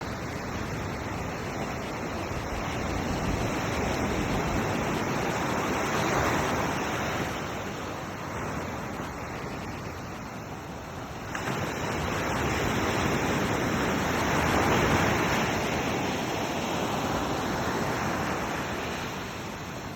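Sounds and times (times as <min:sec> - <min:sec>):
ocean surf washing onto beach: 0:00.0 - 0:19.9.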